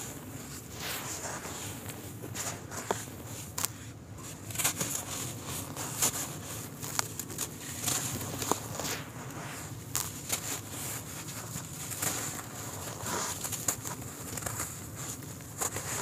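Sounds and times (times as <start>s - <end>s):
dry soil crackling and trickling: 0.3s - 16.0s.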